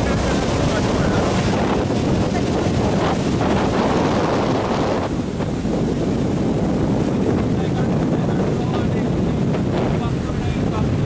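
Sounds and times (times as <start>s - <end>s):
boat engine: 0.0s - 11.0s
water against hull: 0.0s - 11.0s
wind buffeting microphone: 0.0s - 11.0s.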